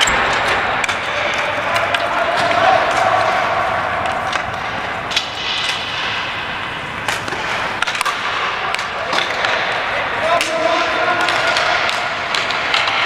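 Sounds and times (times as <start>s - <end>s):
hockey sticks and ball knocks: 0.0s - 13.0s
steady background noise: 0.0s - 13.0s.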